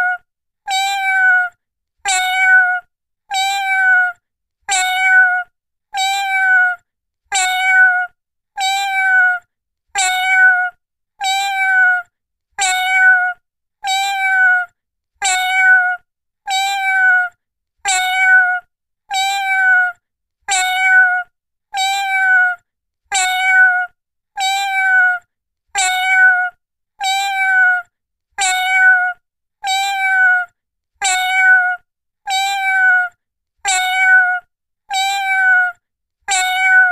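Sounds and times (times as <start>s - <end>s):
cat meowing: 0.0s - 25.2s, 25.8s - 36.9s.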